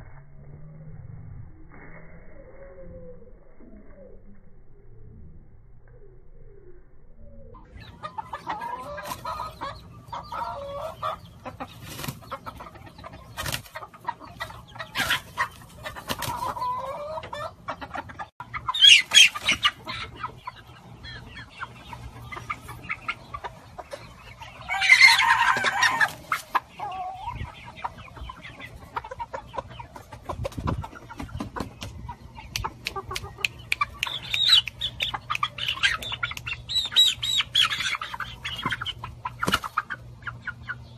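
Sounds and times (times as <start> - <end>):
chickens squawking: 7.5 - 40.9
chickens clucking: 7.6 - 40.9.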